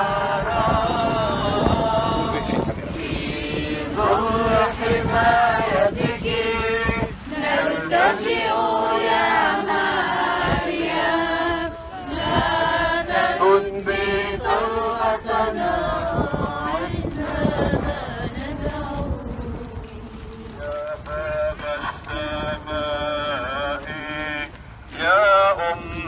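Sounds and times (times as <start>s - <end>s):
crowd singing a hymn: 0.0s - 26.0s.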